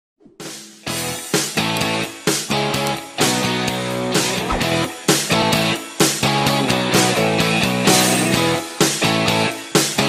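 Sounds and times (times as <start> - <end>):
rock music with electric guitar: 0.8 - 10.0.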